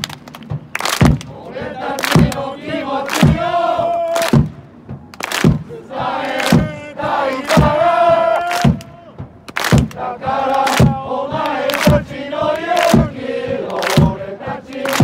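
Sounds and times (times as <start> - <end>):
sharp drum beat: 0.4 - 14.7
football supporters chanting: 1.3 - 4.7, 5.4 - 15.0.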